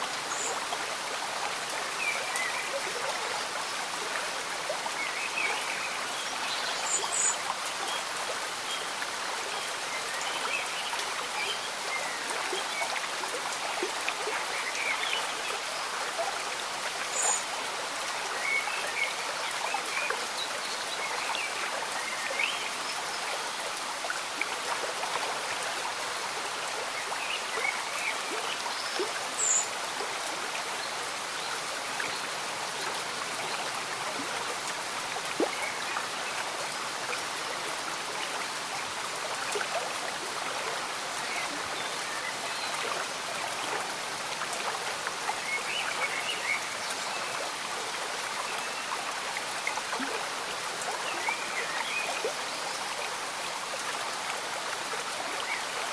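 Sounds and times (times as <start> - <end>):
gentle rain: 0.0 - 55.9
stream bubbling and trickling: 0.0 - 55.9.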